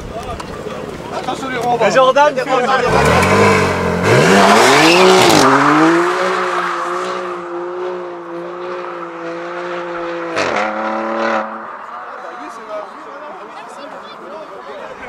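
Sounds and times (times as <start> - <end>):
car engine revving: 2.7 - 15.0.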